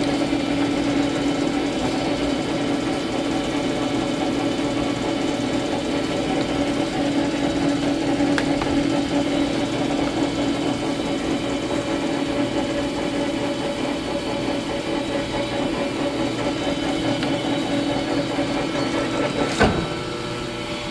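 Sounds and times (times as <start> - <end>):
lathe motor humming: 0.0 - 20.9.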